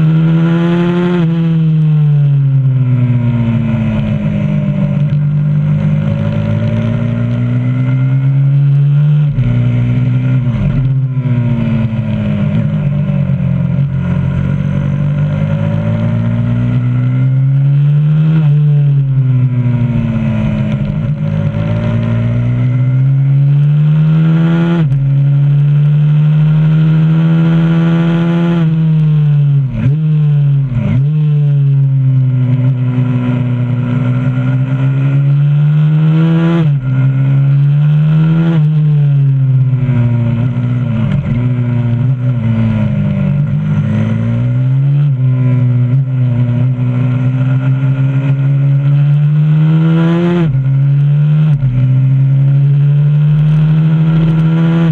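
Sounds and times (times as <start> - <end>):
motorbike engine at full throttle: 0.0 - 54.9.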